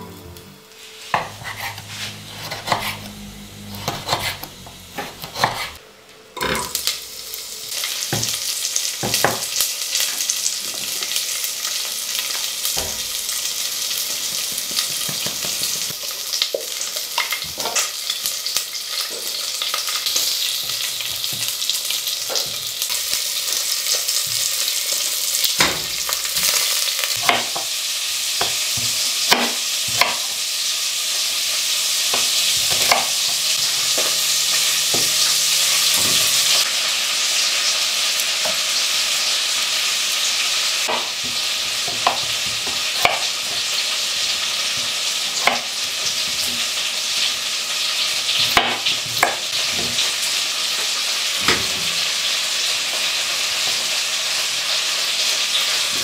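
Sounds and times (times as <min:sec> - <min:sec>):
food sizzling in frying pan: 0:00.0 - 0:05.8, 0:06.4 - 0:56.0.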